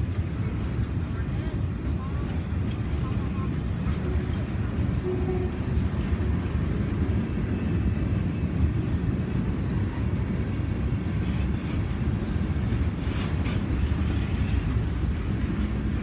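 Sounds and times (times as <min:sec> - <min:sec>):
freight train rumbling by: 0:00.0 - 0:16.0.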